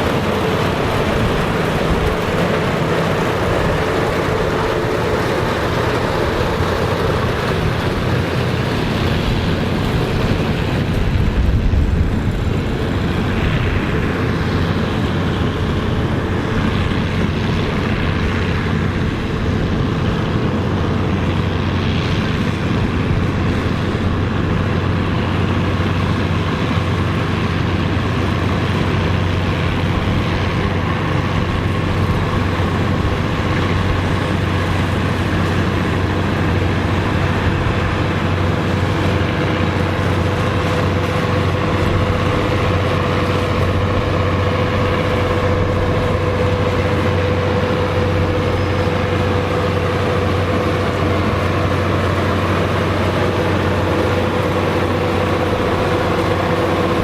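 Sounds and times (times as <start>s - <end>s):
farm machinery engine humming: 0.0s - 57.0s.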